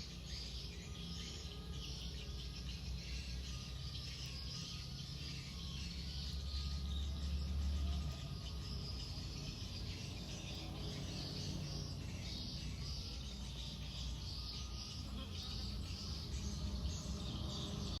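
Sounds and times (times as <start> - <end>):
high chirping: 0.0 - 18.0.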